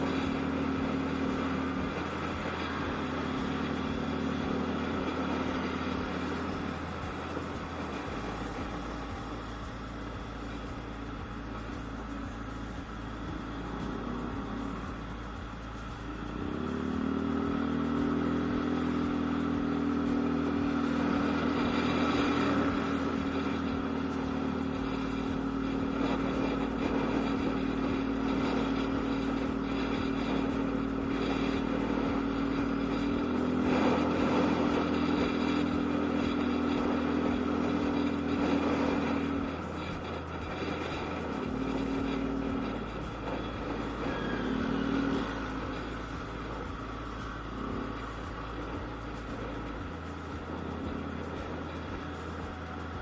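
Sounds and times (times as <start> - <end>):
scooter engine running: 0.0 - 53.0.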